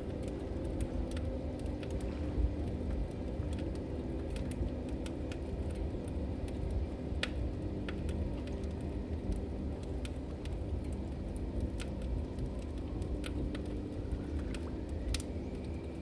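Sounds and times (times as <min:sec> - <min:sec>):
fire crackles and pops: 0:00.0 - 0:16.0
log fire rumbling: 0:00.0 - 0:16.0.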